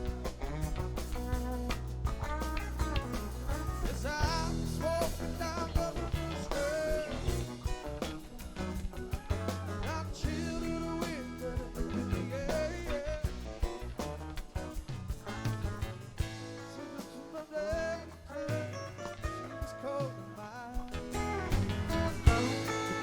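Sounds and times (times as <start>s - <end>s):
bass: 0.0s - 23.0s
drums: 0.0s - 23.0s
guitar: 0.0s - 23.0s.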